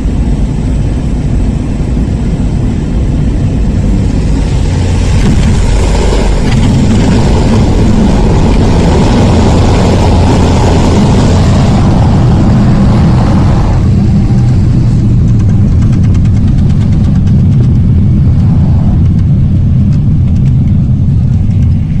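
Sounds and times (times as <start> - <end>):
turboprop engine drone: 0.0 - 22.0.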